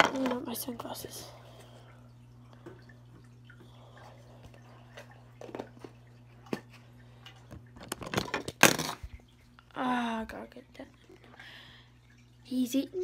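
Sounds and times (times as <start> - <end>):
aquarium filter humming: 0.0 - 13.0
water dripping: 0.1 - 13.0.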